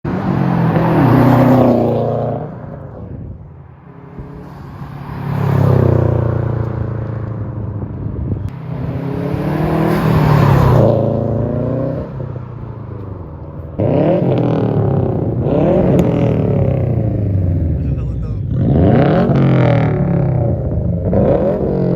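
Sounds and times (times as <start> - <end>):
car engine revving: 0.1 - 12.8, 13.6 - 21.9.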